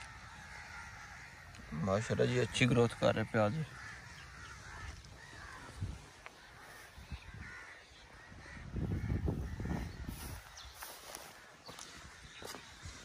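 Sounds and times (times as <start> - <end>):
crows cawing: 0.0 - 13.0.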